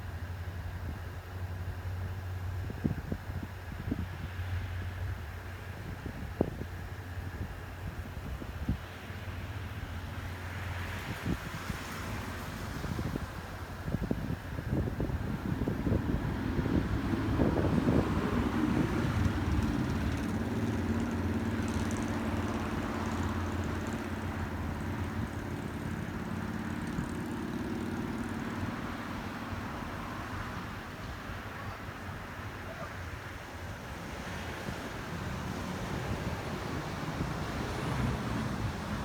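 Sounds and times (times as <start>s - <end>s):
passing vehicle engine hum: 0.0s - 39.0s
steady outdoor hiss: 0.0s - 39.0s.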